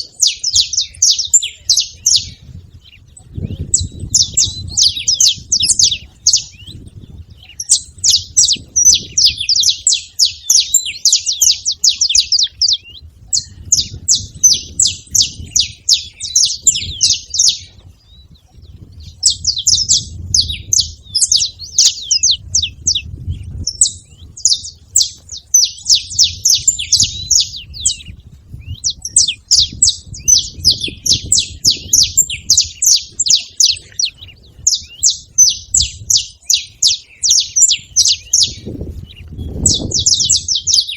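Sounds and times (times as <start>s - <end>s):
finches singing: 0.0s - 40.9s.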